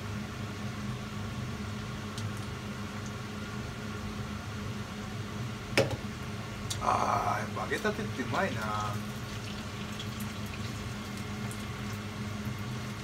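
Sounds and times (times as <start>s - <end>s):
appliance or fan humming: 0.0s - 13.0s.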